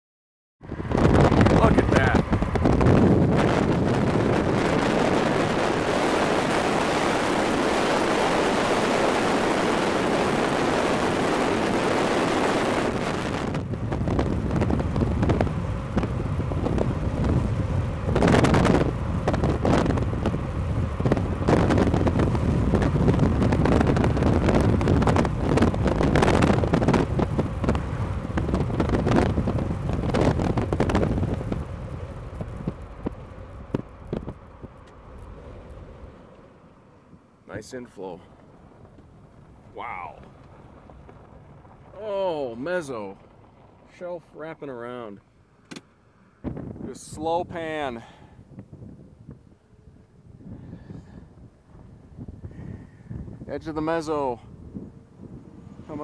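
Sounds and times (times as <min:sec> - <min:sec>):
wind rushing: 0:00.6 - 0:44.3, 0:46.0 - 0:56.0
wind buffeting microphone: 0:00.6 - 0:56.0.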